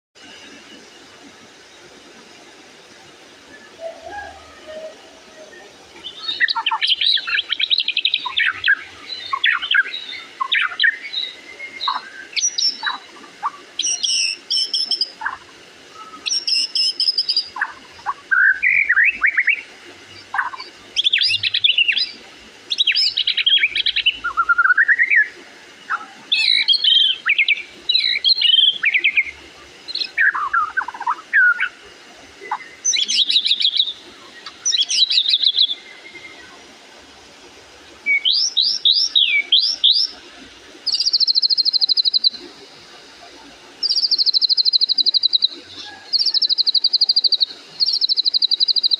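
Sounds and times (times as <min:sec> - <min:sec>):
songbird whistled song: 0:03.5 - 0:31.8, 0:32.4 - 0:36.6, 0:38.0 - 0:40.2, 0:40.8 - 0:42.6, 0:43.8 - 0:48.9.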